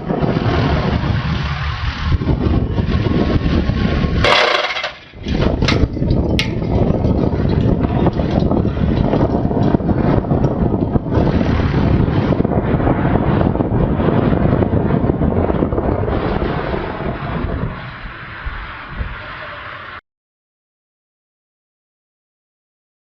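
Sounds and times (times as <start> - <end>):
low rumble: 0.0 - 20.0
wind buffeting microphone: 0.0 - 20.0.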